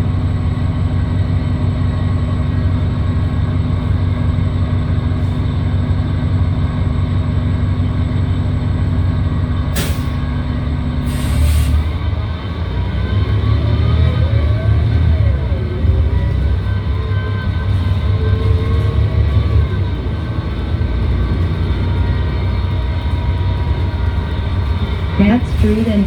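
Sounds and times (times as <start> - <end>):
bus engine droning: 0.0 - 26.0.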